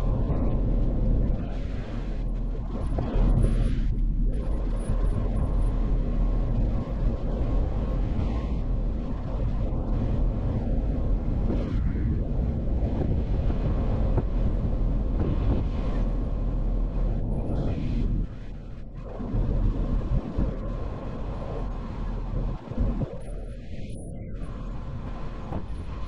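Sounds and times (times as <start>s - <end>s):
off-road vehicle driving rumble: 0.0s - 26.0s.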